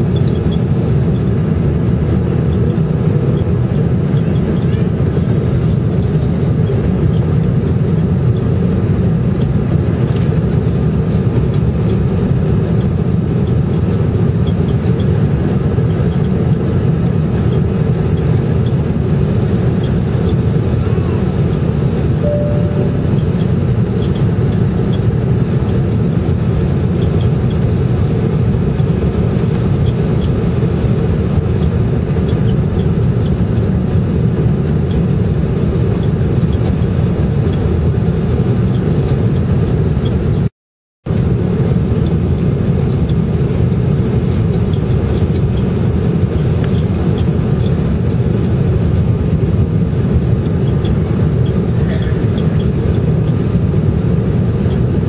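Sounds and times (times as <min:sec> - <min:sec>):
airliner engines rumbling: 0:00.0 - 0:55.0.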